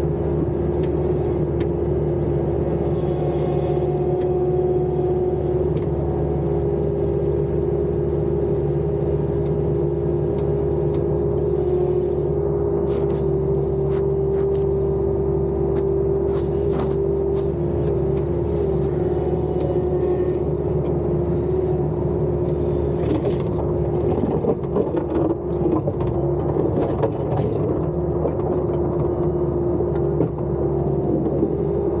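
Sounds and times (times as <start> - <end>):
skid-steer loader engine whining: 0.0 - 32.0.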